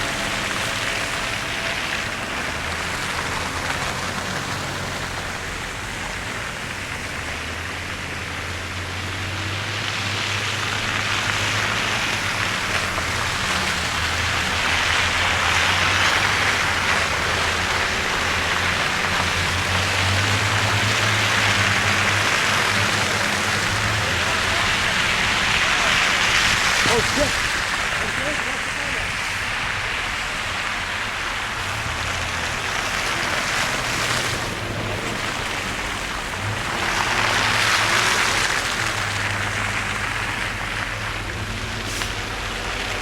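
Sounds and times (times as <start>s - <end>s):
low engine hum: 0.0s - 43.0s
tyres hissing on slushy road: 0.0s - 43.0s.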